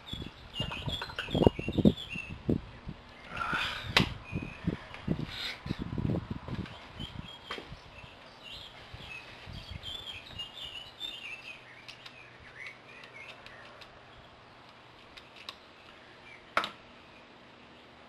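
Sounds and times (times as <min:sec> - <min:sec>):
small birds chirping: 0:00.0 - 0:05.9, 0:06.6 - 0:18.0.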